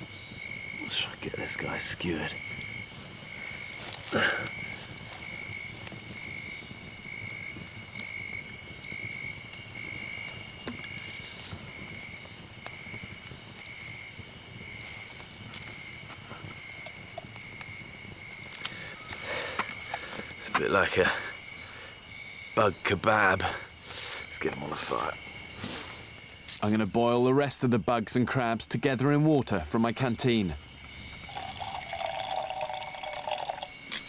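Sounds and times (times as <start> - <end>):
continuous insect hum: 0.0 - 34.0.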